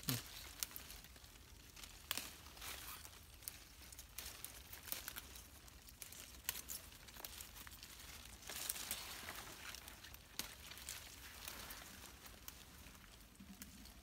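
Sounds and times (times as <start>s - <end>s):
leaves rustling: 0.0s - 14.0s
stems snapping: 0.0s - 14.0s.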